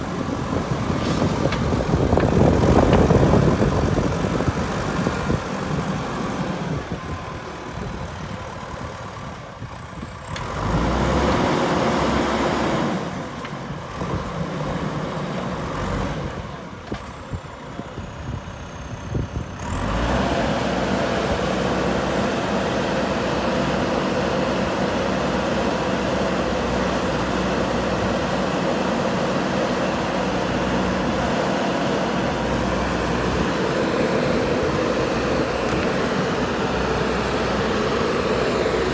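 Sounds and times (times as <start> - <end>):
loader bucket pushing soil: 0.0 - 8.8, 10.1 - 38.9
diesel engine under load: 0.0 - 38.9.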